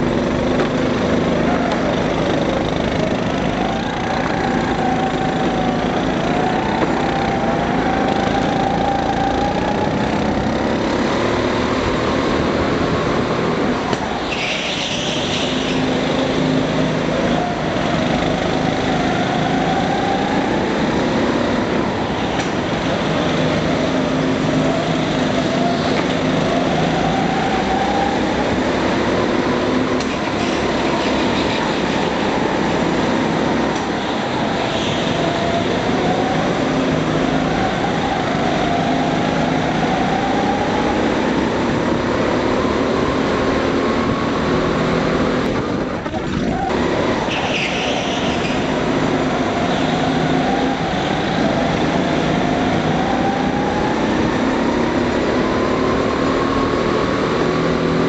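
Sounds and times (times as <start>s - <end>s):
go-kart engines revving: 0.0s - 58.0s.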